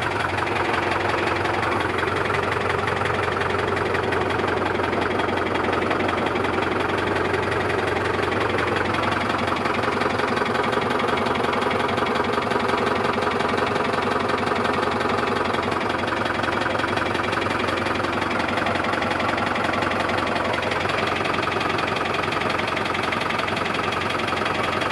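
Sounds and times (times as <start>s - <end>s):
diesel tractor engine clattering: 0.0s - 24.9s.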